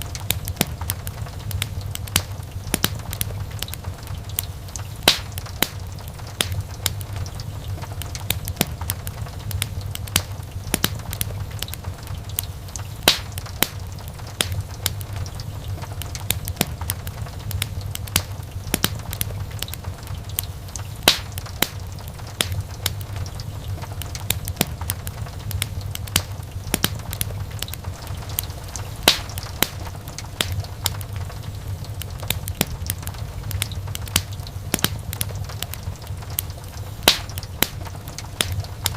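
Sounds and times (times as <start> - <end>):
burning logs crackling and popping: 0.0 - 38.9
low rumble of flames: 0.0 - 38.9.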